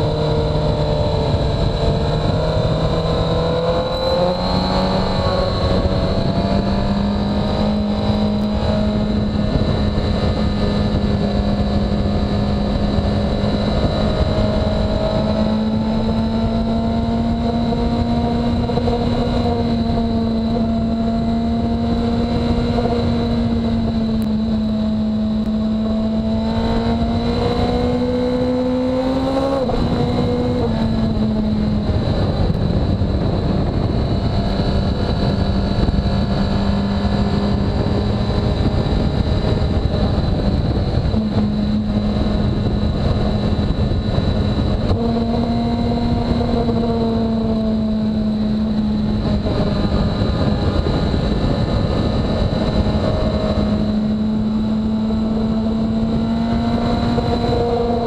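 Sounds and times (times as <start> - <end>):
motorcycle engine revving: 0.0 - 58.0
road noise: 0.0 - 58.0
wind noise: 0.0 - 58.0.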